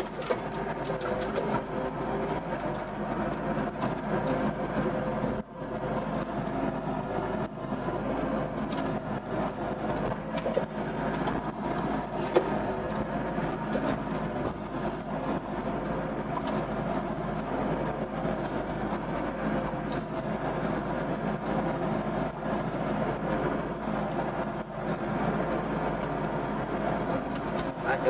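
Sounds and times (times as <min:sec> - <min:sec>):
excavator diesel engine running: 0:00.0 - 0:28.0
hydraulics digging and swinging: 0:00.0 - 0:28.0.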